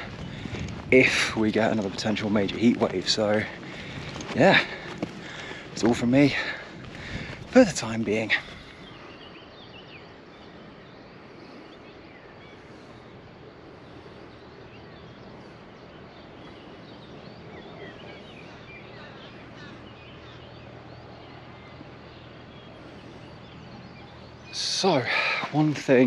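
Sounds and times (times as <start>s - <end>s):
birds chirping: 0.0s - 26.0s
low background noise: 0.0s - 26.0s.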